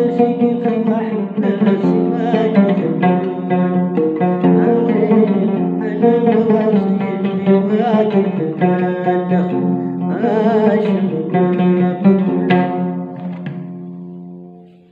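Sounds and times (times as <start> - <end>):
plucked lute notes: 0.0 - 14.9.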